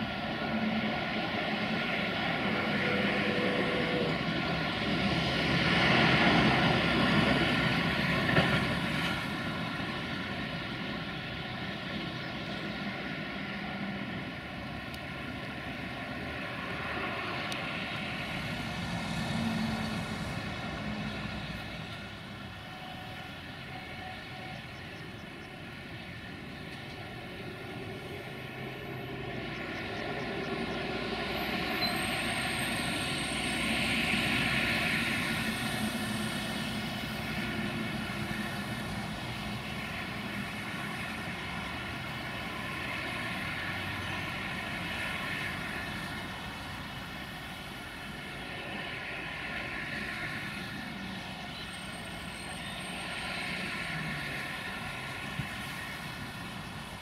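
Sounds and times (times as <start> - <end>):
locomotive engine drone: 0.0 - 57.0.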